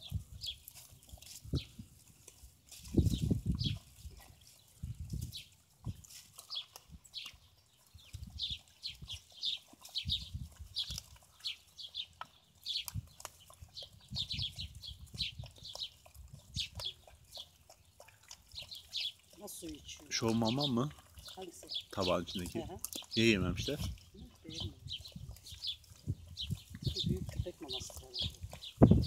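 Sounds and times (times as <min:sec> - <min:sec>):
puppies chewing and smacking: 0:00.0 - 0:29.0
small birds chirping: 0:00.0 - 0:29.0.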